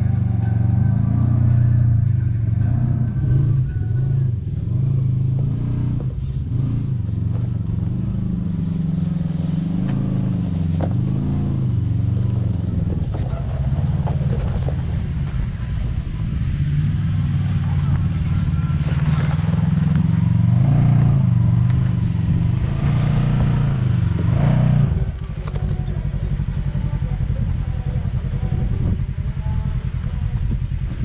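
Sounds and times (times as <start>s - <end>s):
engine revving at low revs: 0.0s - 31.0s.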